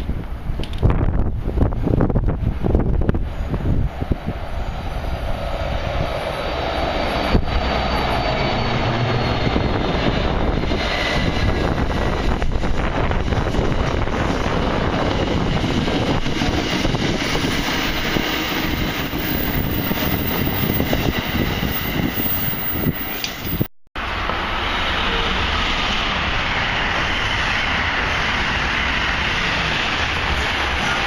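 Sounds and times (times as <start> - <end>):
wheels on rail: 0.0 - 31.0
trains rushing past: 0.4 - 31.0.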